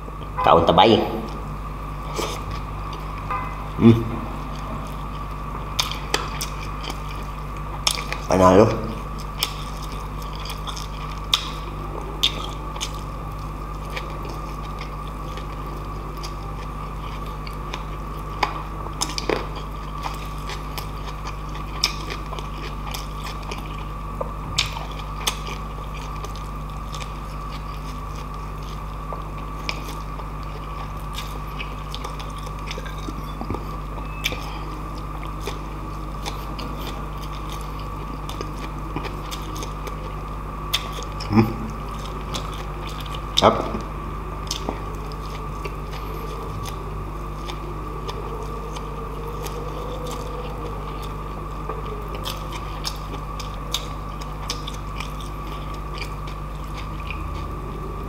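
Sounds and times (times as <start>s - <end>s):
steady low hum: 0.0s - 58.0s
person chewing food: 2.0s - 8.3s, 9.0s - 58.0s.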